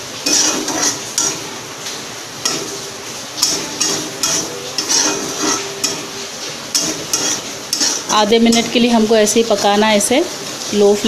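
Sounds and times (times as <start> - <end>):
frying sizzle: 0.0 - 11.0
metal spatula scraping pan: 0.2 - 1.7, 2.4 - 10.1.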